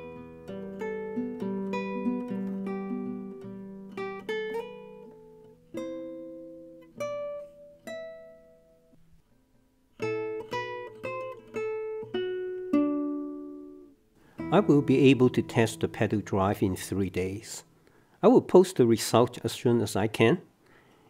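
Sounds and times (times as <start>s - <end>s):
acoustic guitar picking: 0.0s - 9.1s, 10.0s - 17.8s.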